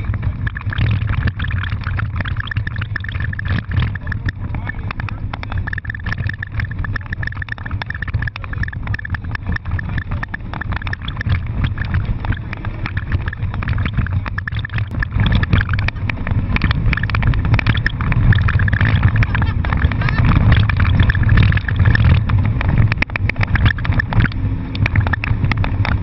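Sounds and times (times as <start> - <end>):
car engine running hard: 0.0 - 26.0
road and tyre noise: 0.0 - 26.0.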